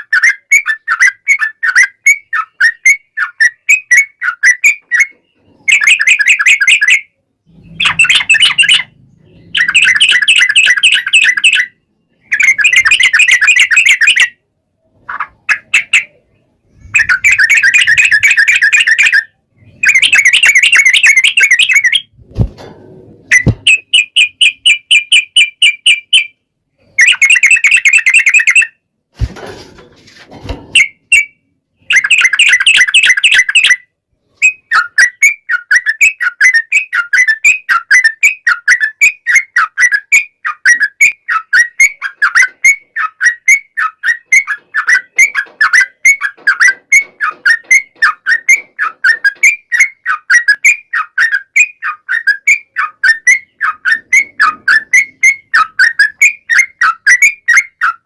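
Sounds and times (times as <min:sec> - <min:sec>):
bird singing chattering trills: 0:00.0 - 0:14.4, 0:15.0 - 0:22.2, 0:23.3 - 0:28.7, 0:30.8 - 0:33.8, 0:34.4 - 0:58.0.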